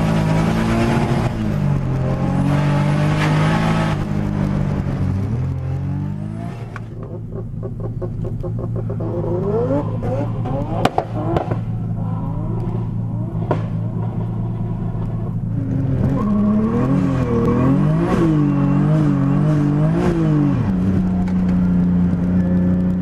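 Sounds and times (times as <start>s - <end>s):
car engine and exhaust: 0.0s - 23.0s.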